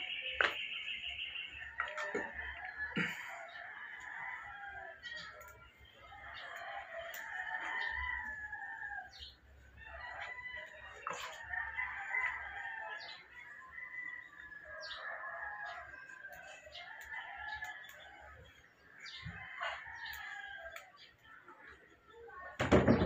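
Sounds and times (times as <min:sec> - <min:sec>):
roosters crowing: 0:01.5 - 0:21.1.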